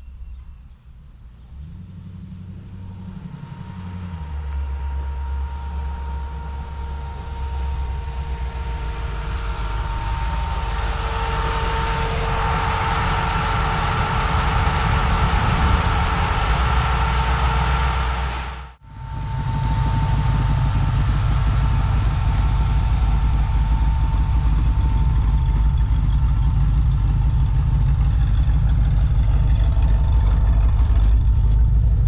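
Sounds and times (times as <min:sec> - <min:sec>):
truck engine rumbling: 0:00.0 - 0:32.0.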